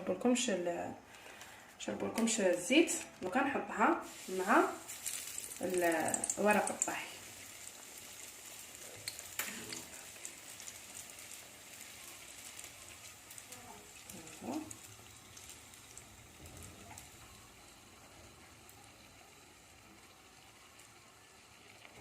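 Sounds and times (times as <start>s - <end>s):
dough sizzling in hot oil: 0.0s - 22.0s.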